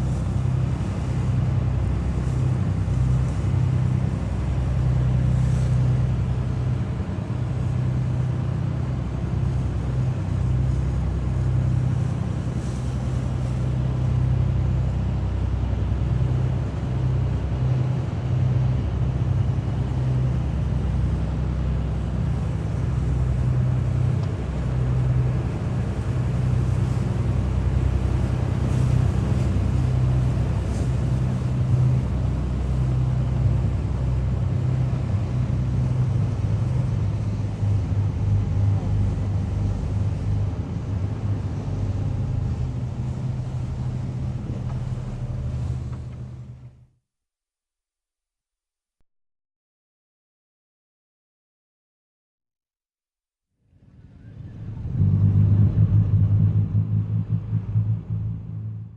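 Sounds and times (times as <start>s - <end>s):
boat engine droning: 0.0s - 46.9s, 53.8s - 58.9s.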